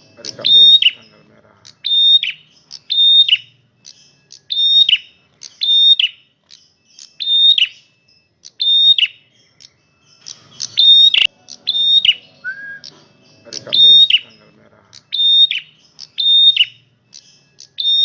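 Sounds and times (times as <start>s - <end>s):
bird singing loudly: 0.0s - 18.0s.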